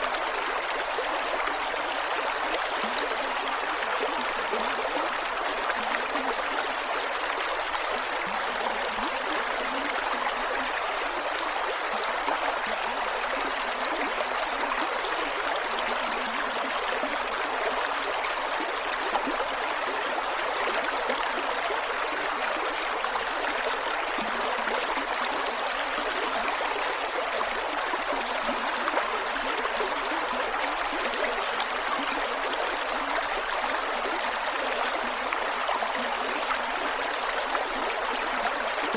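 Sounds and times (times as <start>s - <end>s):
water flowing over rocks: 0.0s - 38.9s.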